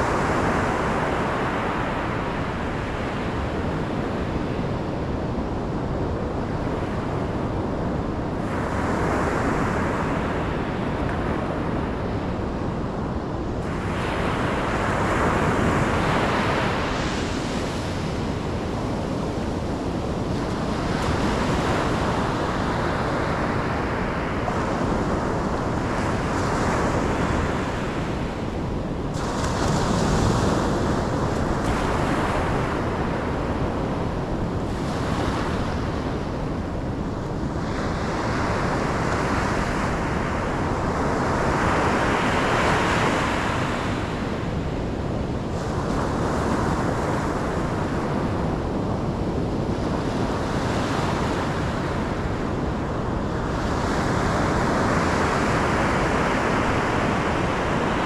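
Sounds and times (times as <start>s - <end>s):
ocean waves breaking on shore: 0.0s - 58.0s
wind on microphone: 0.0s - 58.0s.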